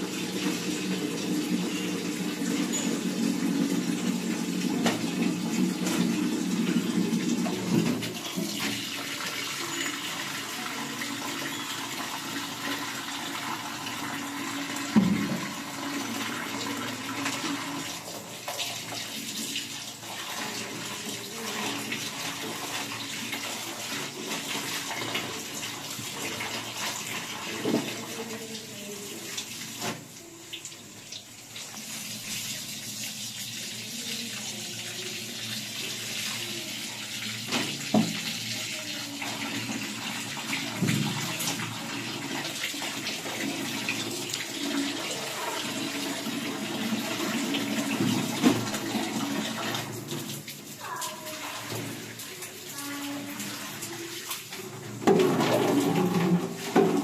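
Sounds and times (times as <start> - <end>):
water running and splashing: 0.0 - 57.0.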